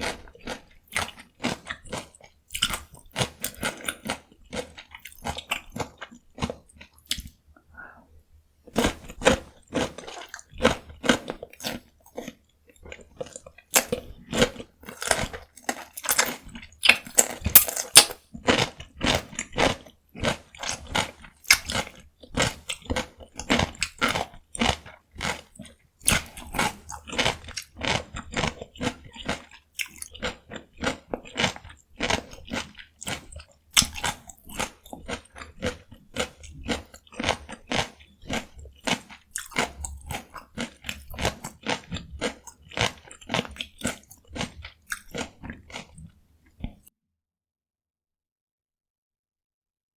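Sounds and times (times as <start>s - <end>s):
crunchy cucumber chewing: 0.0s - 7.4s, 8.7s - 46.9s.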